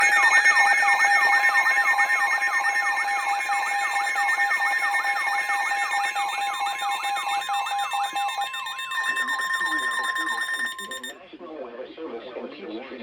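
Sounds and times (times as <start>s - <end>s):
emergency alert tone: 0.0s - 11.2s.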